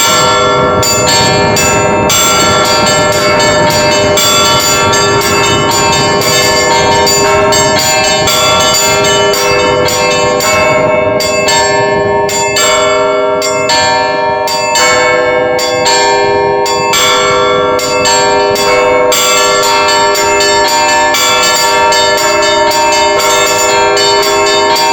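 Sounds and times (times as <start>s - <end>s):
large bells ringing: 0.0s - 24.9s
small bells striking rapidly: 0.0s - 24.9s.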